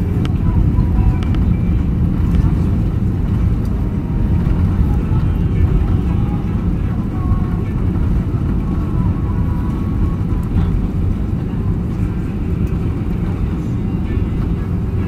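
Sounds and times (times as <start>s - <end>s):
jet engines rumbling: 0.0s - 15.0s
wheels running on runway: 0.0s - 15.0s.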